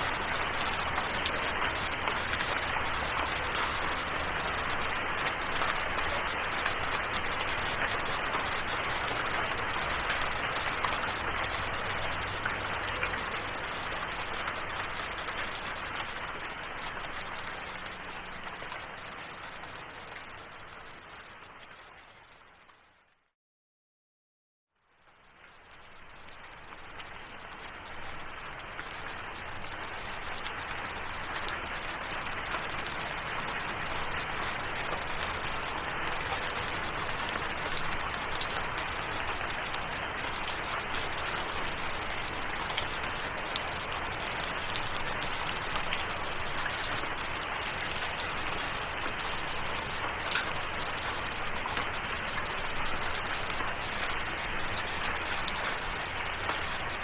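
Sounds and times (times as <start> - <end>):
steady rain: 0.0 - 23.1, 24.8 - 57.0.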